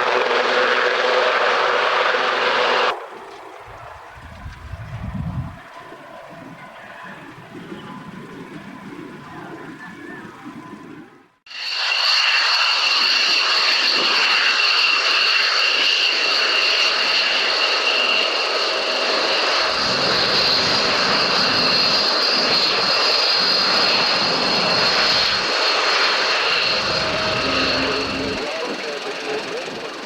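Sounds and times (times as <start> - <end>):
aircraft turbine engine whining: 0.0 - 30.0.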